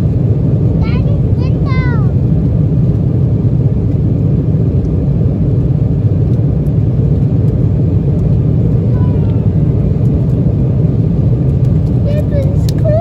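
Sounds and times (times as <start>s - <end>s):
airliner engines roaring: 0.0s - 13.0s
rushing air: 0.0s - 13.0s.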